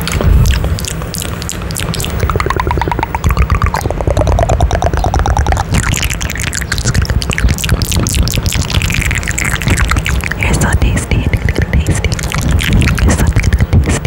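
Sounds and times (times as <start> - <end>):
wet kissing and lip-smacking: 0.0 - 14.0.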